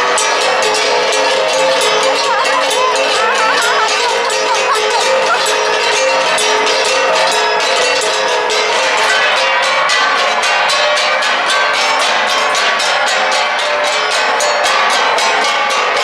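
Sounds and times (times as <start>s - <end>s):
bronze gongs struck rapidly: 0.0s - 16.0s.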